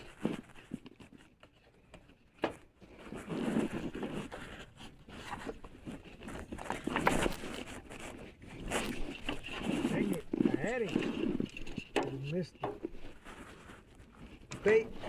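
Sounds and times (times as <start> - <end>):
clothing rustling on microphone: 0.0 - 15.0.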